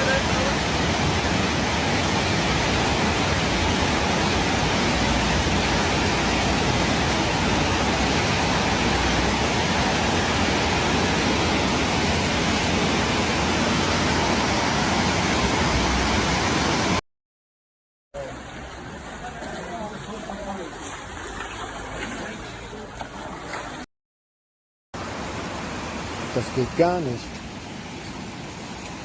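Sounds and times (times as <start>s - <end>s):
rushing floodwater roar: 0.0s - 17.0s, 18.2s - 23.9s, 25.0s - 29.0s.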